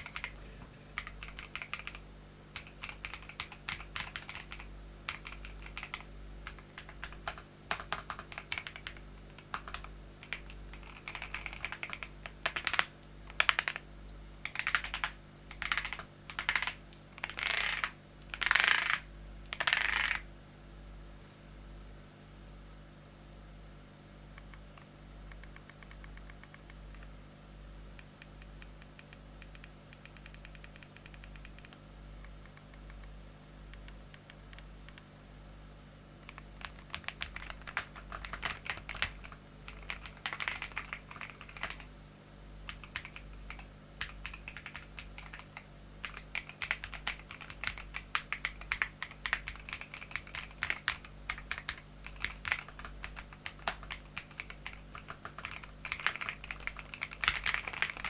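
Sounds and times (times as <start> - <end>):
mechanical keyboard typing: 0.0 - 0.4, 1.0 - 2.0, 2.6 - 13.8, 14.4 - 20.2, 24.4 - 27.1, 28.3 - 33.1, 36.2 - 41.9, 42.7 - 58.0.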